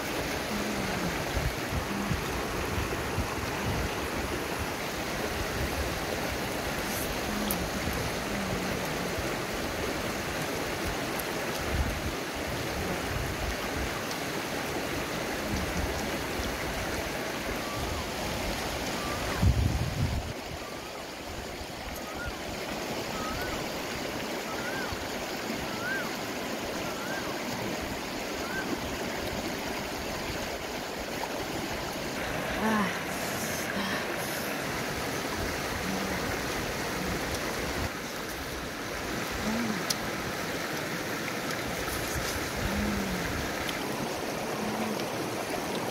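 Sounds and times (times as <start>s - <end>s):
river rushing over rocks: 0.0s - 45.9s.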